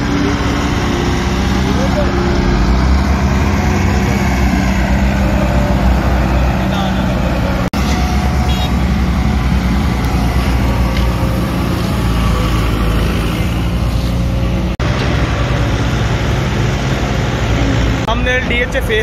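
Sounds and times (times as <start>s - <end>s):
diesel engines rumbling: 0.0s - 19.0s
passing road traffic: 0.0s - 19.0s.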